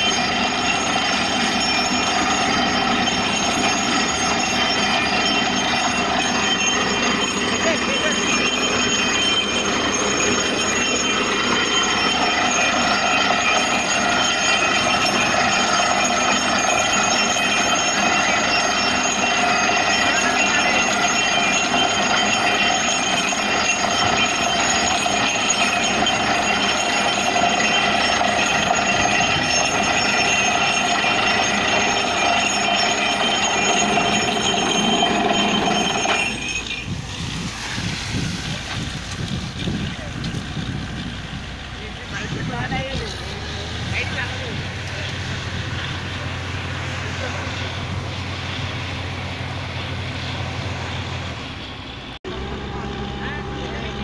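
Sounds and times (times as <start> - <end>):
drilling rig air blasting: 0.0 - 54.0
high machine whine: 0.0 - 54.0.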